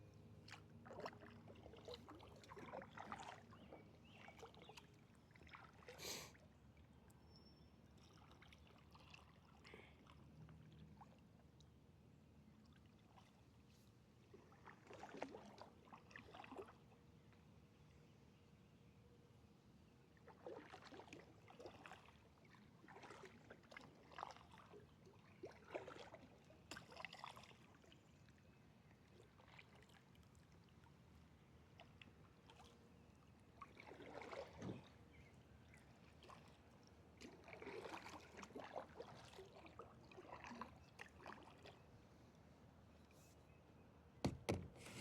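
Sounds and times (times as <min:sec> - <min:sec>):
faint kayak paddle splashes: 0:00.2 - 0:11.6, 0:12.5 - 0:18.2, 0:19.8 - 0:43.6, 0:44.3 - 0:45.0.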